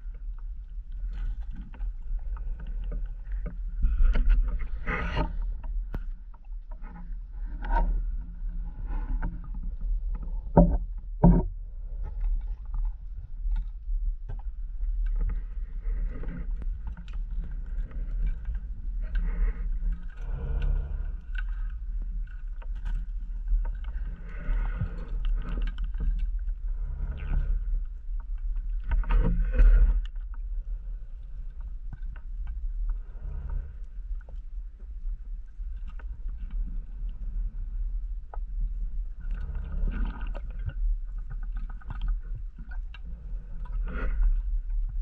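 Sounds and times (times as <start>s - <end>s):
low rumble of water: 0.0s - 45.0s.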